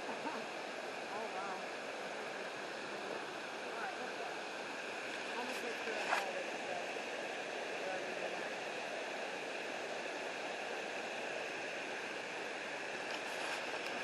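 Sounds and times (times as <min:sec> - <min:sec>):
flowing creek and waterfall: 0:00.0 - 0:14.0.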